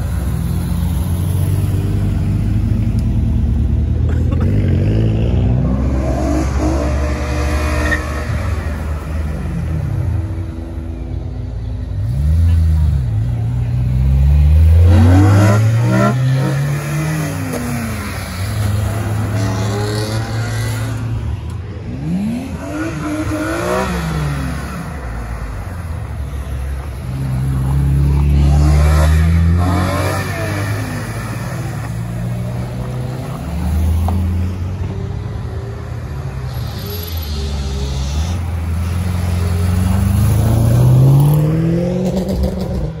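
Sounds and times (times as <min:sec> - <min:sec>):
cars driving past: 0:00.0 - 0:43.0
engines revving: 0:00.0 - 0:43.0.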